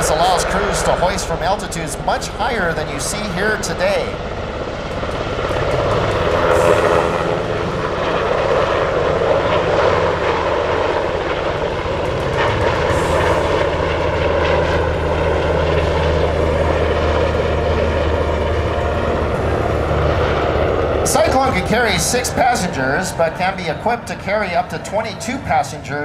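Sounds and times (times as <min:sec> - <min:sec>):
helicopter rotor and turbine: 0:00.0 - 0:26.0.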